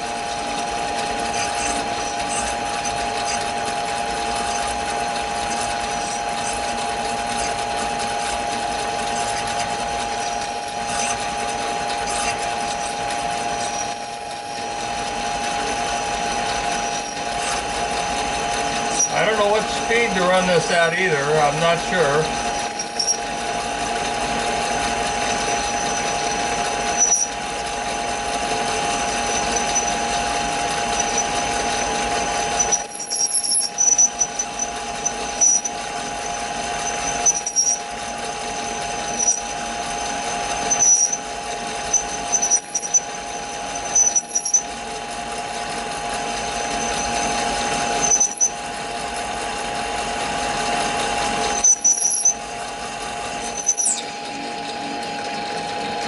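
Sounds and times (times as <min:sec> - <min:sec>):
lathe whining and squealing: 0:00.0 - 0:56.0.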